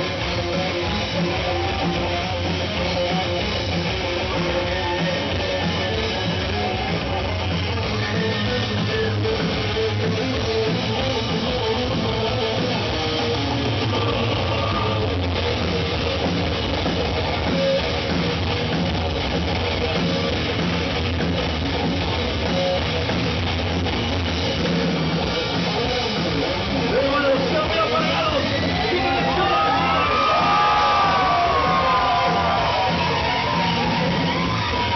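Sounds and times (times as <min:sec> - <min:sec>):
drum kit: 0:00.0 - 0:34.9
electric guitars: 0:00.0 - 0:34.9.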